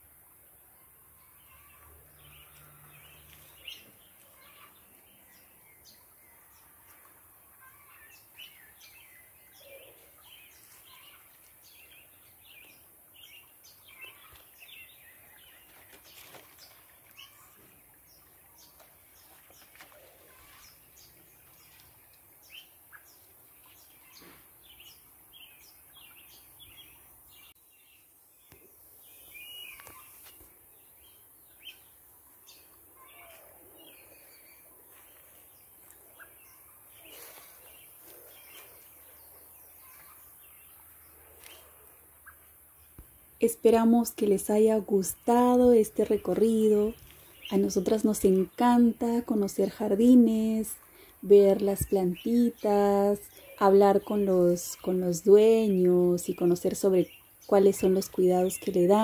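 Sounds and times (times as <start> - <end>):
small birds chirping: 0.6 - 59.0.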